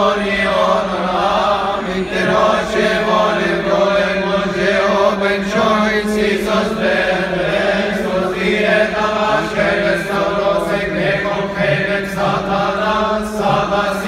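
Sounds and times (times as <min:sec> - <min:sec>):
men chanting a hymn: 0:00.0 - 0:14.0.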